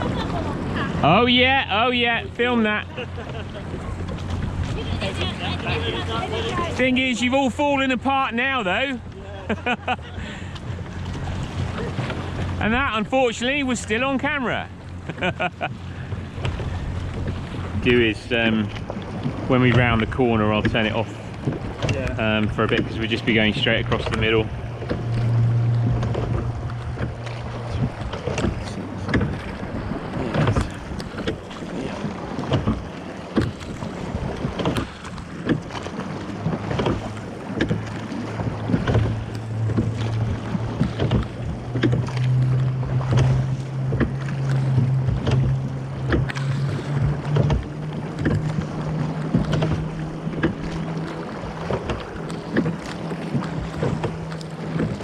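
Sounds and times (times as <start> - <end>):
oars knocking and splashing: 0.0 - 55.0.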